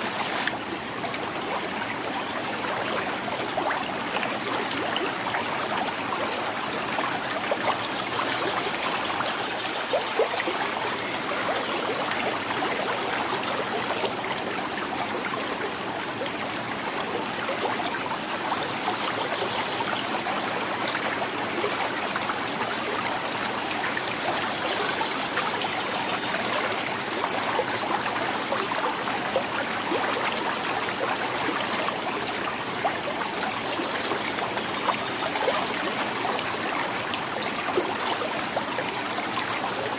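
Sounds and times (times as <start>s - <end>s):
river gurgling over rocks: 0.0s - 39.9s.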